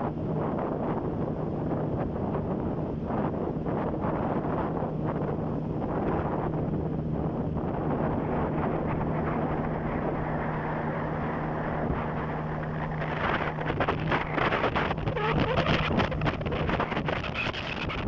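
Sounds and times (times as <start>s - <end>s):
wind buffeting microphone: 0.0s - 18.0s
small boat motor running: 1.4s - 18.0s.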